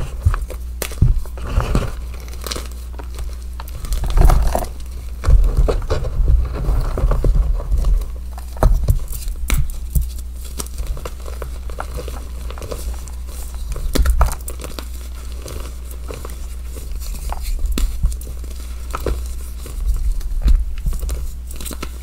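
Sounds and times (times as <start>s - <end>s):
hands crushing chalk blocks: 0.0s - 22.0s
steady low hum: 0.0s - 22.0s.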